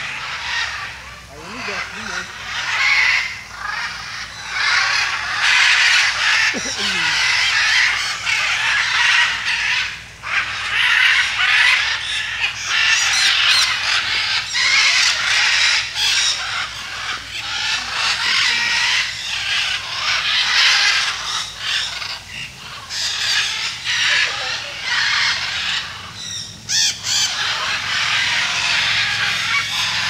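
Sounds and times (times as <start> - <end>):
macaws squawking: 0.0 - 30.0.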